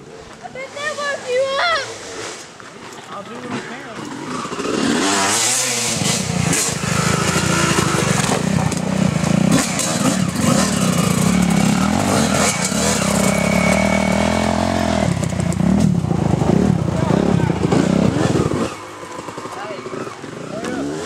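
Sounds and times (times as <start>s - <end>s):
dirt bike engine revving: 3.5s - 21.0s.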